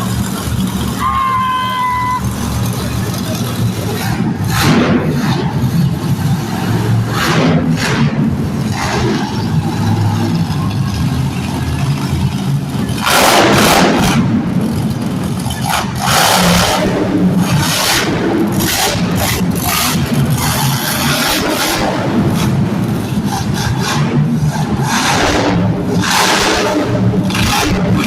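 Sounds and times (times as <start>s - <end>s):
monster truck engines revving: 0.0s - 28.0s.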